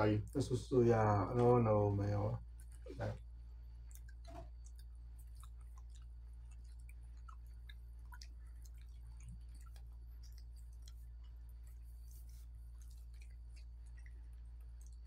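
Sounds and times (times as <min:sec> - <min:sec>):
steady low hum: 0:00.0 - 0:15.0
faint chewing: 0:01.3 - 0:15.0.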